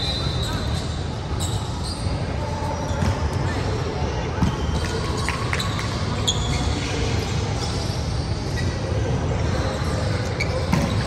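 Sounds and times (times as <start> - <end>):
faint high squeaks: 0.0 - 3.8, 4.6 - 11.0
low rumble of gym hall: 0.0 - 11.0.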